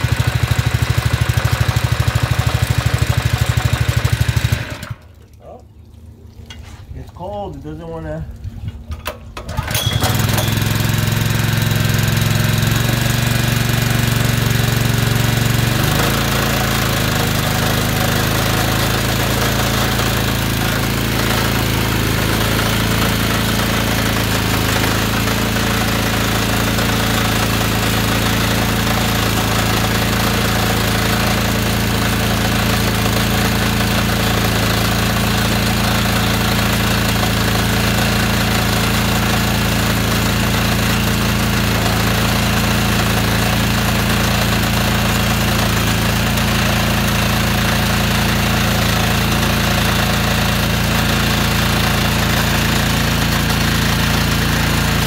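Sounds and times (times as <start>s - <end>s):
pressure washer engine running: 0.0s - 5.2s, 9.4s - 55.0s.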